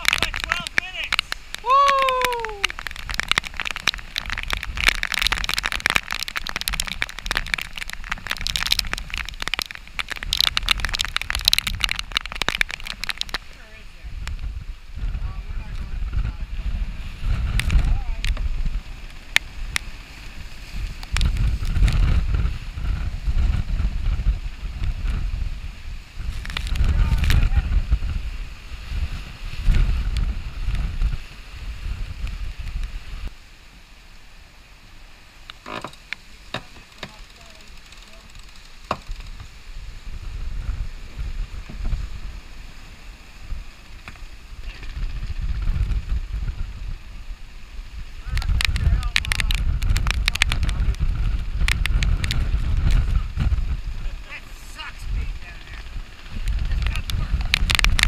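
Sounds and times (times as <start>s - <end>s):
rain ticking on camera housing: 0.0s - 16.5s, 17.3s - 28.3s, 35.1s - 58.0s
storm wind on microphone: 0.0s - 33.4s, 38.2s - 58.0s
water rushing past hull: 0.0s - 58.0s.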